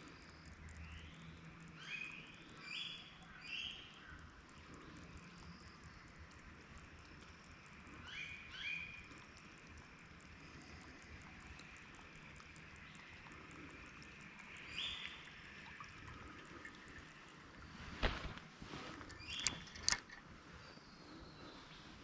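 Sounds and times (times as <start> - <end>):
stream trickling: 0.0 - 22.0.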